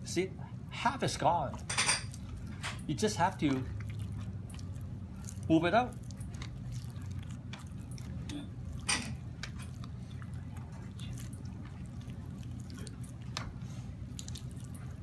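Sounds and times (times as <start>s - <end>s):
low room hum: 0.0s - 15.0s
wet squishing of skin peeling: 1.3s - 15.0s.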